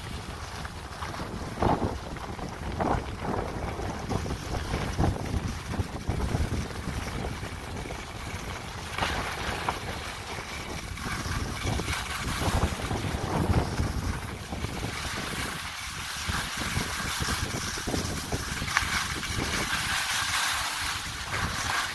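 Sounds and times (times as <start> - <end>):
skis scraping over snow: 0.0 - 21.9
wind buffeting microphone: 0.0 - 21.9.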